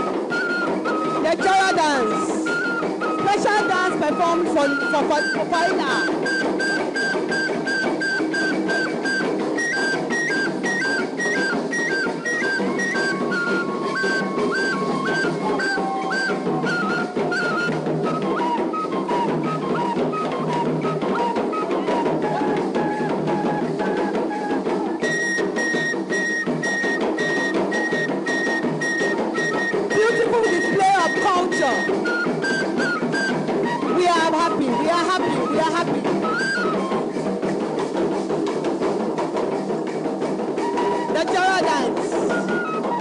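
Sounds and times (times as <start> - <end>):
high piping notes: 0.0 - 24.0, 24.6 - 43.0
drum ensemble playing: 0.0 - 43.0.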